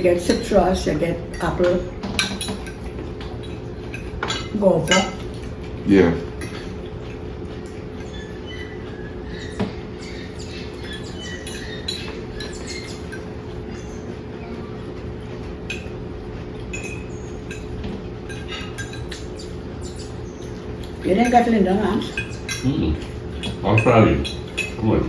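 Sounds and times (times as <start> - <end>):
dishes and cutlery clinking: 0.0 - 25.0
steady low hum: 0.0 - 25.0.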